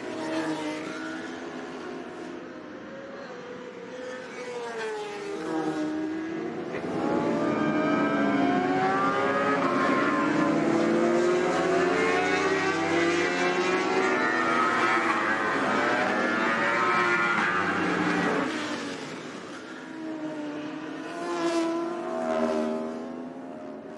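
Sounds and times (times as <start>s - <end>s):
racing motorcycle engines: 0.0s - 23.9s.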